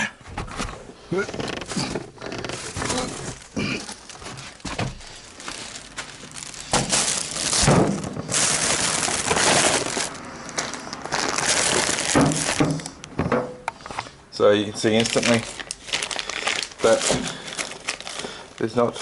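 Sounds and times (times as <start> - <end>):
packaging rustling and crinkling: 1.3 - 13.0, 14.8 - 19.0.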